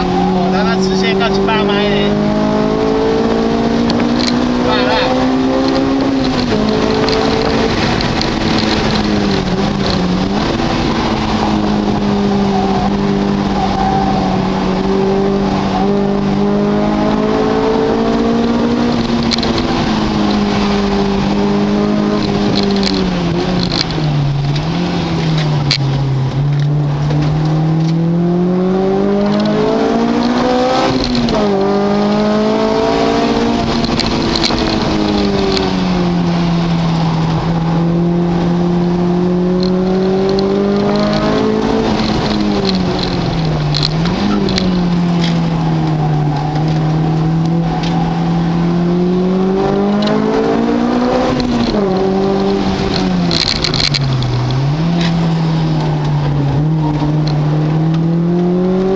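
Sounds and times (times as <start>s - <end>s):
car engine accelerating: 0.0s - 58.9s.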